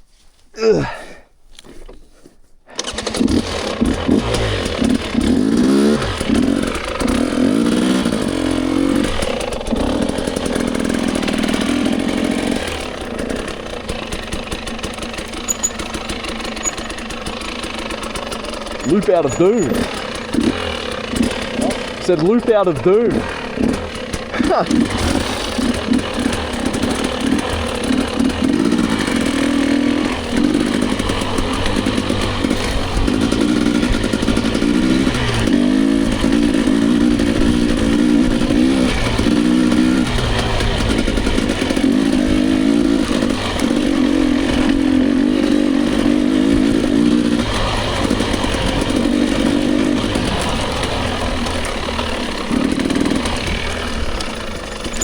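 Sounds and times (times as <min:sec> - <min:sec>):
dirt bike engine revving: 0:02.7 - 0:55.0.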